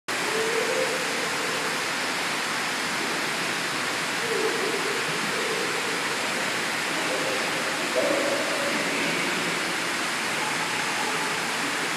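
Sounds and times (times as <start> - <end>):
indoor pool rushing noise: 0.1 - 11.9.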